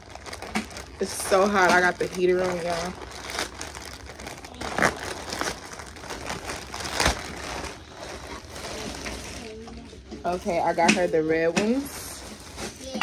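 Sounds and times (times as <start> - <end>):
plastic bag crinkling: 0.0 - 13.0
sharp plastic crackles: 0.0 - 13.0.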